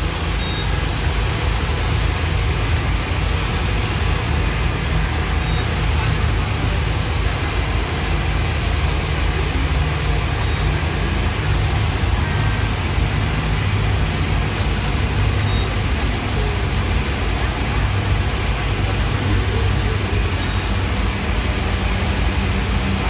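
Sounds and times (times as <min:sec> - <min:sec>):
rushing water noise: 0:00.0 - 0:23.0
speedboat engine drone: 0:00.0 - 0:23.0.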